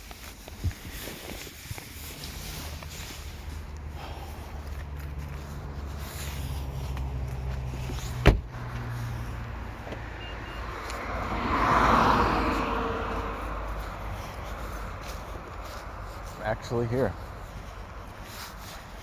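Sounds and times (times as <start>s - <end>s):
vehicle passing on road: 0.0s - 19.0s.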